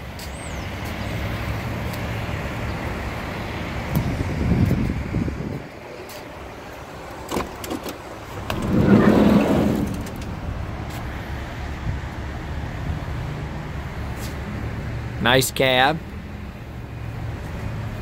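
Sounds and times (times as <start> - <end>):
vehicle traffic hum: 0.0 - 18.0.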